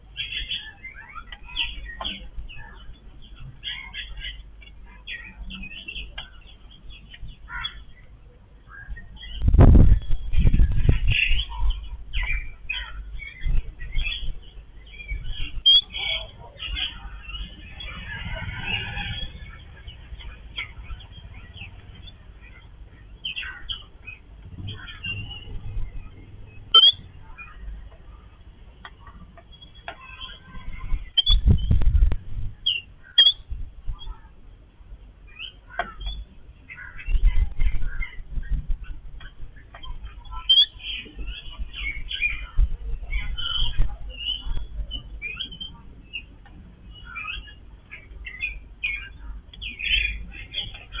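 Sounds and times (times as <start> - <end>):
birds chattering: 0.0 - 51.0
low rumbling and clicks: 0.0 - 51.0.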